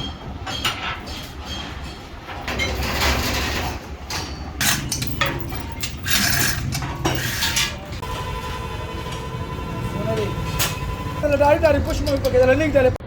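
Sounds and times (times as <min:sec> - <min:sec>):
mechanical metal noise: 0:00.0 - 0:13.0.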